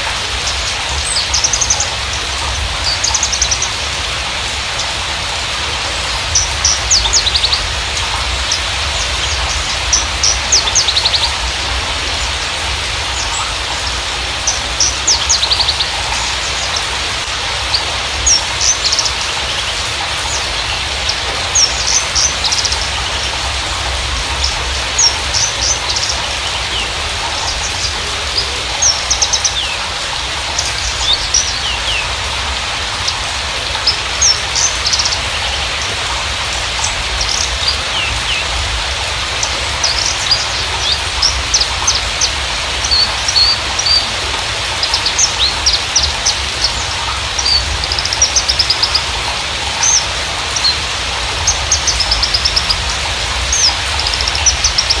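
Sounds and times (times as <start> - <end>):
bird chirping and trilling: 0.0 - 55.0
steady hiss: 0.0 - 55.0.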